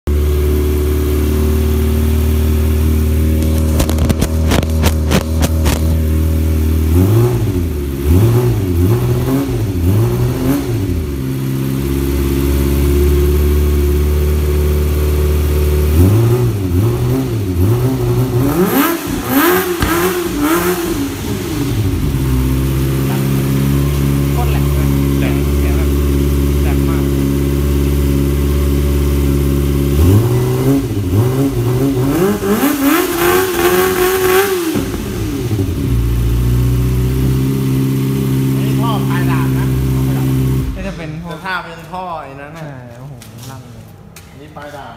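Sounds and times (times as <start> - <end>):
motorcycle engine idling and revving: 0.0 - 41.4.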